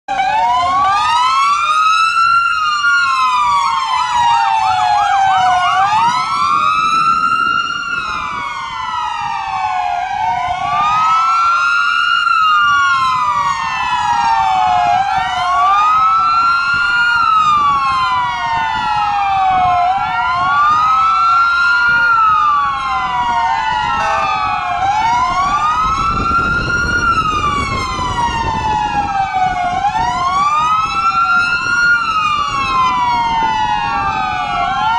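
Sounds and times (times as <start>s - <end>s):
police sirens wailing: 0.1s - 34.9s
road and engine rumble: 0.1s - 34.9s.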